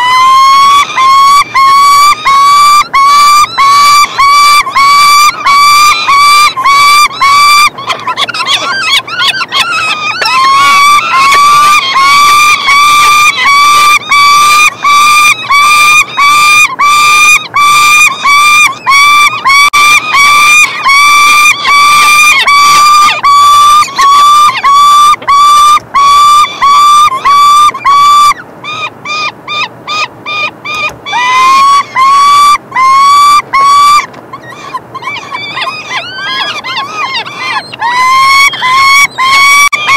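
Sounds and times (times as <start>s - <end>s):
falcons crying: 0.0s - 39.9s.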